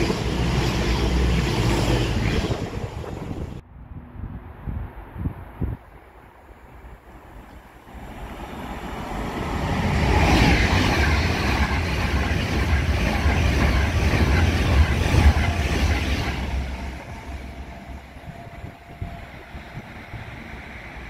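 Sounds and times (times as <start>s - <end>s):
train wheels rumbling on rail: 0.0s - 3.6s, 7.4s - 21.0s.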